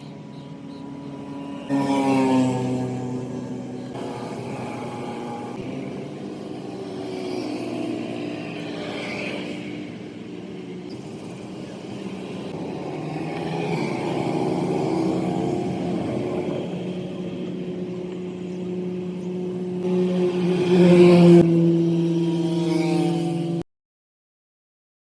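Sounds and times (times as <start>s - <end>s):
vehicle engine running: 0.0s - 22.4s.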